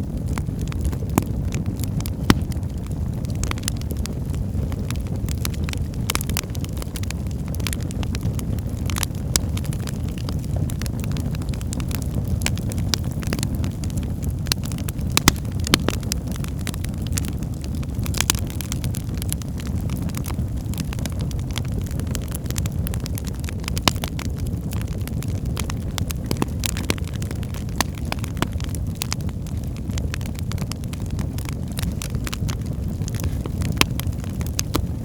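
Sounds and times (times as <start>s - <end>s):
fire roaring: 0.0s - 35.0s
wood fire crackling and popping: 0.0s - 35.0s.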